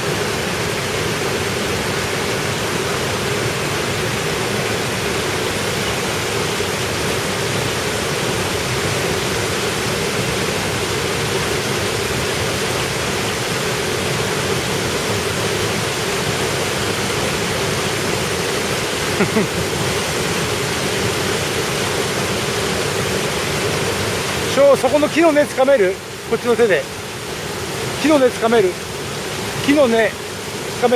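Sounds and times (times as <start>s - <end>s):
waterfall and stream rushing: 0.0s - 30.9s.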